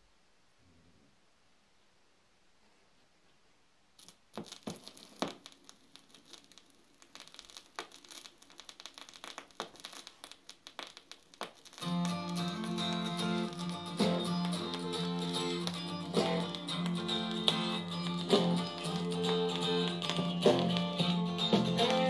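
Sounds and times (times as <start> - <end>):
vinyl crackle and pops: 3.1 - 22.0.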